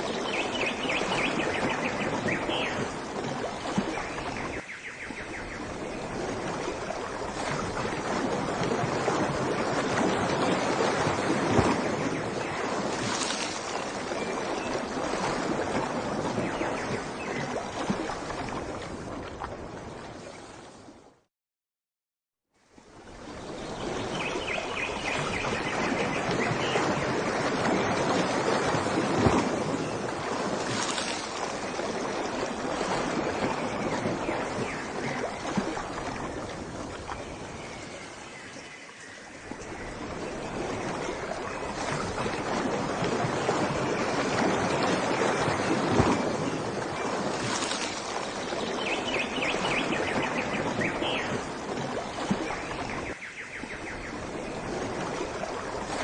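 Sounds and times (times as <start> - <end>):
ocean waves washing in: 0.0 - 21.3, 22.6 - 56.0.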